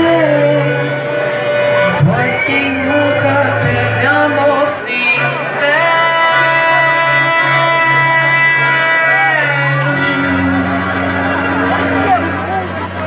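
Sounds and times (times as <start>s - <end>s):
band playing: 0.0s - 13.0s
person singing: 0.0s - 13.0s.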